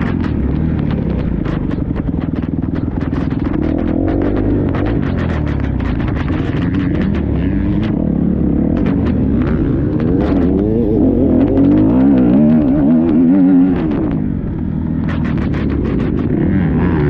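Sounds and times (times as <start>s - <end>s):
motorcycle engine revving: 0.0s - 17.0s
sharp clicks and knocks: 0.0s - 17.0s.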